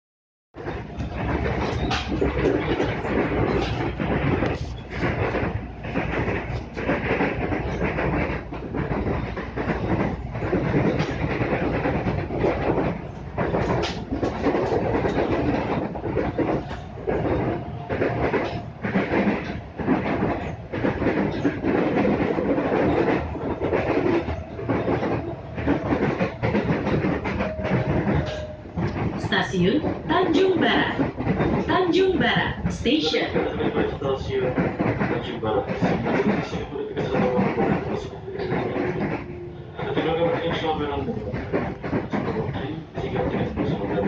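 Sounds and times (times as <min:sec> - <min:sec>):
train wheels rumbling on rails: 0:00.6 - 0:44.0.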